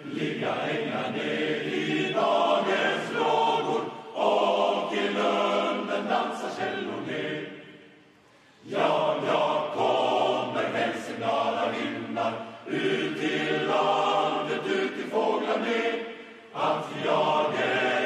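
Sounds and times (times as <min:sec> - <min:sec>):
male choir singing a cappella: 0:00.0 - 0:08.0, 0:08.6 - 0:18.0.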